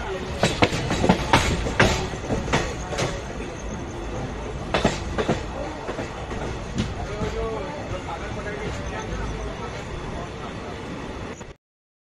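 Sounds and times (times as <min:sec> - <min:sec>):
train wheels clacking over rail joints: 0:00.0 - 0:09.7
low rumble of running train: 0:00.0 - 0:11.6.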